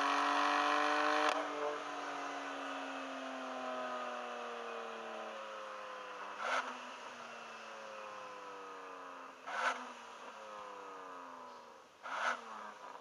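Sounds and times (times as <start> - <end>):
engine rev bursts on downshifts: 0.0 - 4.5, 5.3 - 13.0.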